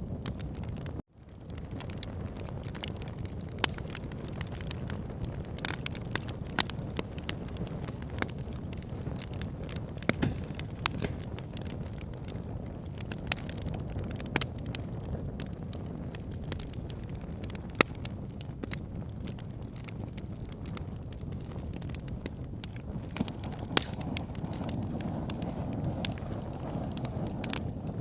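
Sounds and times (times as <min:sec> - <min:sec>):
logs burning in fireplace: 0:00.0 - 0:28.0
sharp fire pops: 0:00.2 - 0:28.0.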